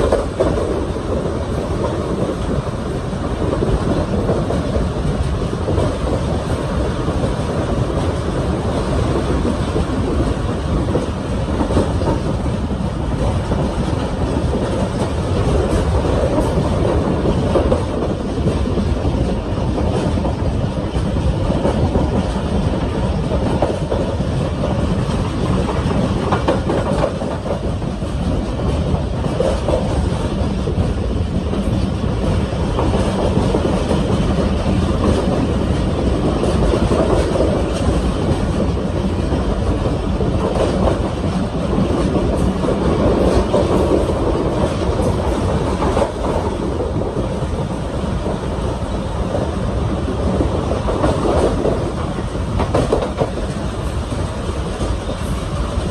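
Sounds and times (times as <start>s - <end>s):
train rumbling on track: 0.0s - 55.9s.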